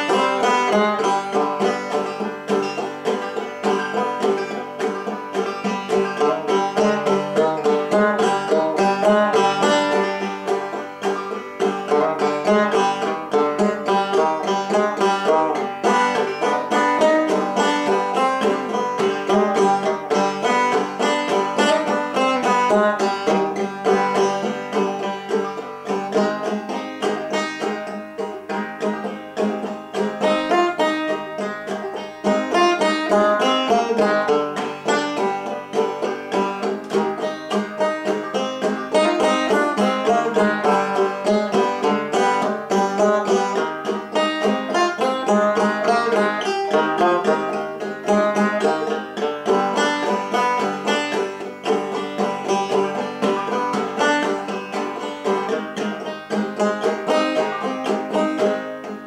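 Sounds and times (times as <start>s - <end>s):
resonator banjo picking: 0.0s - 59.0s.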